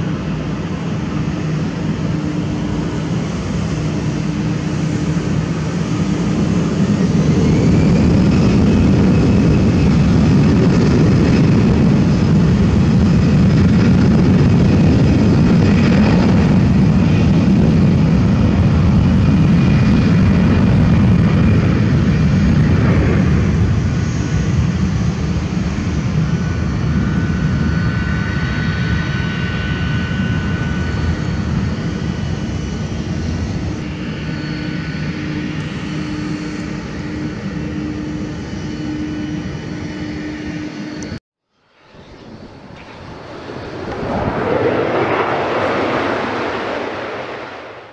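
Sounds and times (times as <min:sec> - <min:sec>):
jet engine whine climbing: 0:00.0 - 0:47.9
jet engines roaring: 0:00.0 - 0:47.9.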